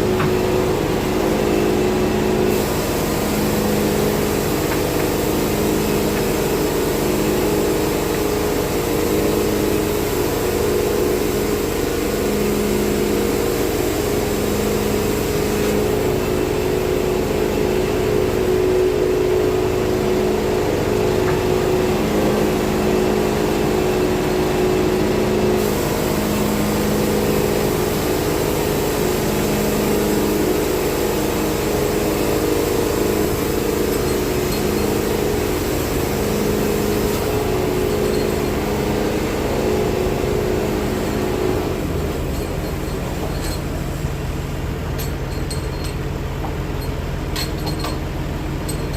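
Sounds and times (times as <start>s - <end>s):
sawmill engine running: 0.0s - 48.9s.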